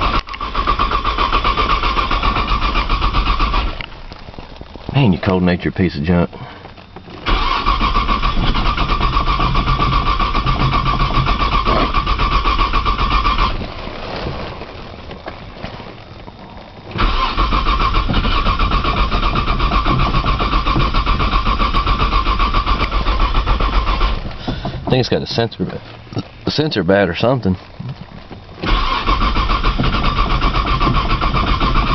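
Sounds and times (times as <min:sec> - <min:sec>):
car engine cranking: 0:00.0 - 0:31.9.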